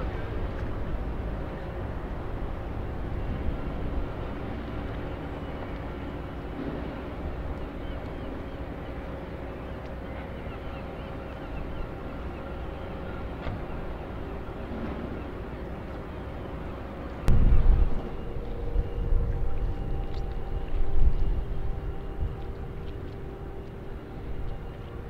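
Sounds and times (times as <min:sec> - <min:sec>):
boat engines rumbling: 0:00.0 - 0:25.0
constant hum: 0:00.0 - 0:25.0.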